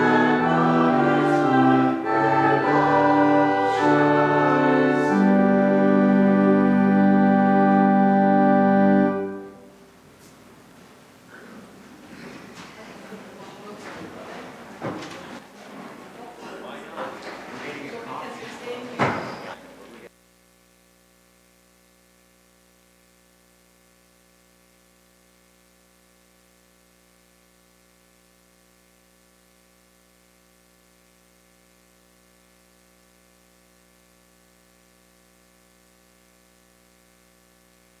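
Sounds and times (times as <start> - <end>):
faint electrical hum with hiss: 0.0 - 38.0.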